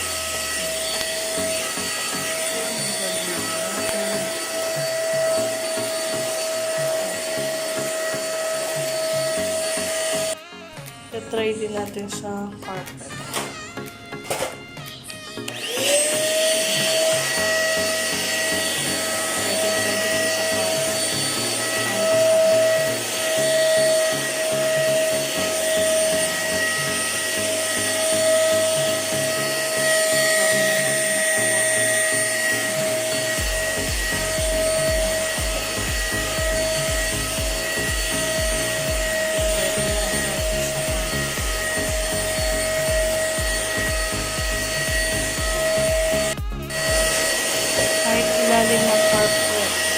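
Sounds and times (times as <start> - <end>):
low even pulsing: 0.0 - 10.4, 15.4 - 49.9
handheld vacuum cleaner whine: 0.0 - 10.6, 13.0 - 49.9.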